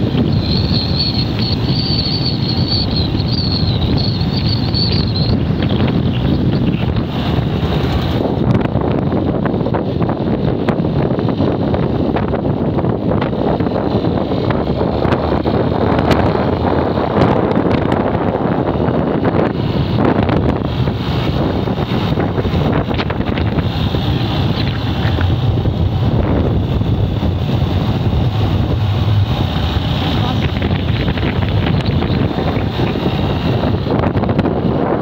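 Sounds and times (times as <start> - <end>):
motorcycle engine hum: 0.0 - 35.0
road noise: 0.0 - 35.0
wind rushing over microphone: 0.0 - 35.0.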